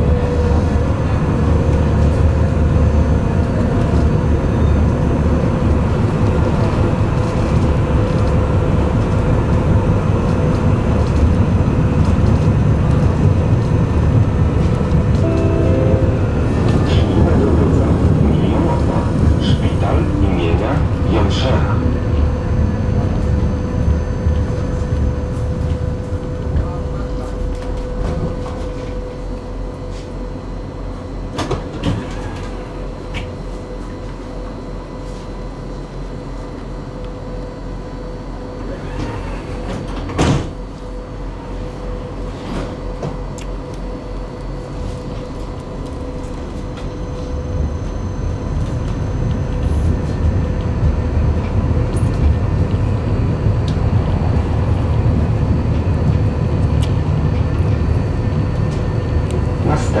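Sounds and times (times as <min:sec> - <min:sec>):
tram electrical hum: 0:00.0 - 1:00.0
tram wheels and motors rumbling: 0:00.0 - 1:00.0.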